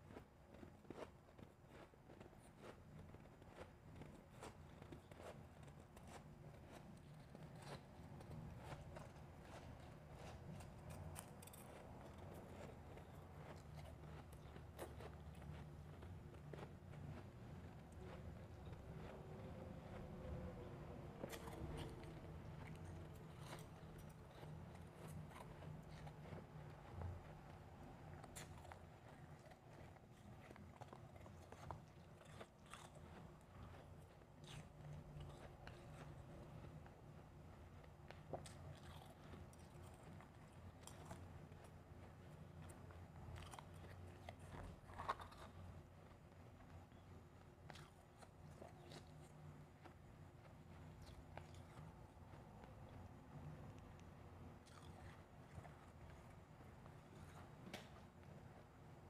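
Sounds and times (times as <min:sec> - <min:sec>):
ice being chewed: 0:00.0 - 0:58.7.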